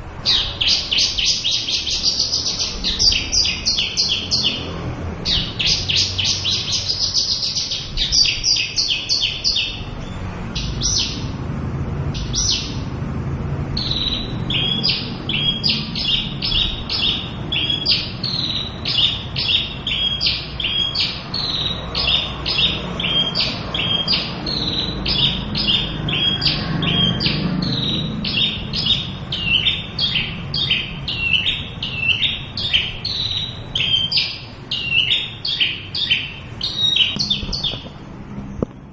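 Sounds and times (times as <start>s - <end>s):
lark singing: 0.2s - 11.2s, 12.1s - 12.9s, 13.7s - 37.9s.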